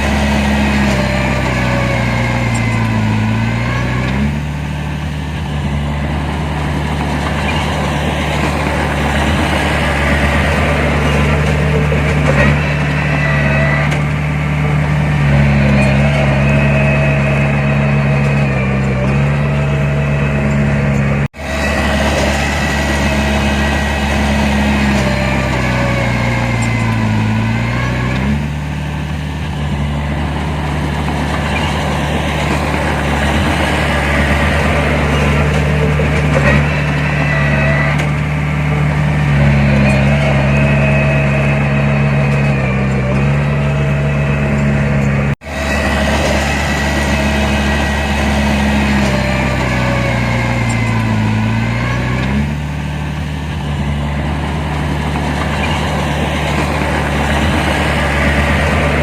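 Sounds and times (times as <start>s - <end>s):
heavy diesel engine working: 0.0s - 59.0s.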